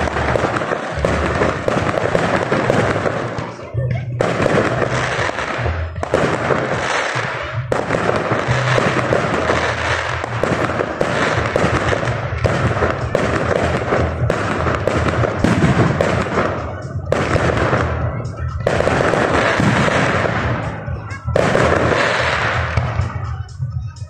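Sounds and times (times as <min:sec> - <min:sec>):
fireworks crackling and popping: 0:00.0 - 0:24.0
music playing: 0:00.0 - 0:24.0.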